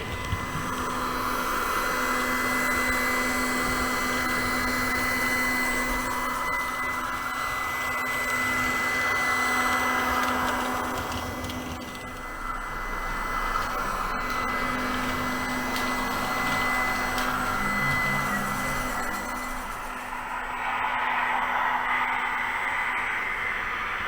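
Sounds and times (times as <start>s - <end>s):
small electric motor whirring: 0.0s - 20.5s.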